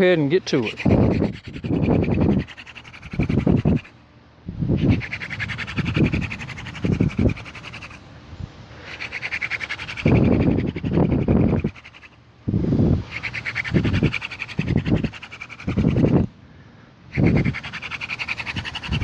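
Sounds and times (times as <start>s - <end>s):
wooden spindle grinding and squeaking: 0.0s - 4.0s, 4.8s - 8.1s, 8.9s - 12.2s, 13.1s - 16.3s, 17.2s - 19.0s.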